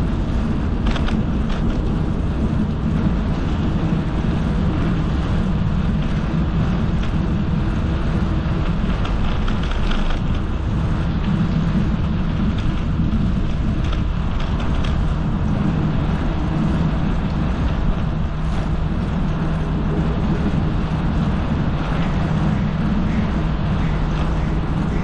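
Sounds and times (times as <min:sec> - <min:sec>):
bicycle riding rumble and hiss: 0:00.0 - 0:25.0
steady low hum: 0:00.0 - 0:25.0
traffic droning: 0:00.0 - 0:25.0
wind on microphone: 0:00.0 - 0:25.0.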